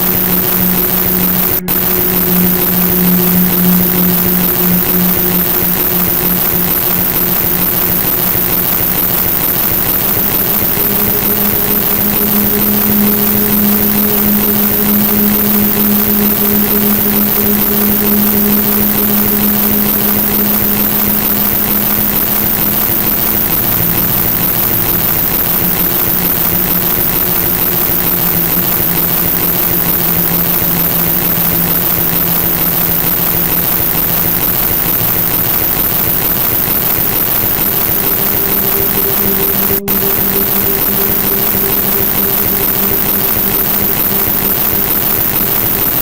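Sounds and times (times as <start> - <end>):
low humming tones: 0.0 - 46.0.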